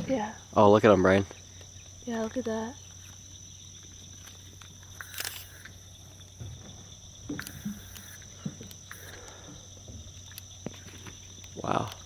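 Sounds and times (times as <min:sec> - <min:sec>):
insect chorus droning: 0:00.0 - 0:12.0
rustle: 0:00.0 - 0:12.0.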